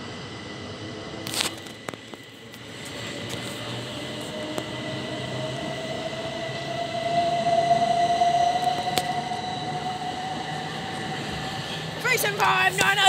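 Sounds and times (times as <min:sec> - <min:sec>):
train traction motor whine: 0:00.0 - 0:13.0.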